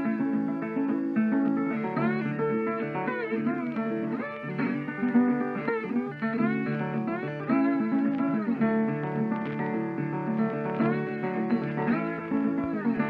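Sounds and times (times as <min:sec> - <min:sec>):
plucked guitar with bends: 0:00.0 - 0:13.0.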